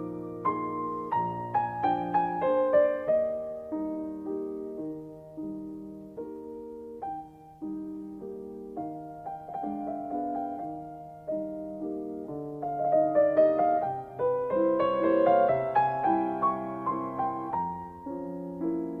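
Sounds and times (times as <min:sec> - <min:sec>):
gentle solo piano melody: 0:00.0 - 0:19.0.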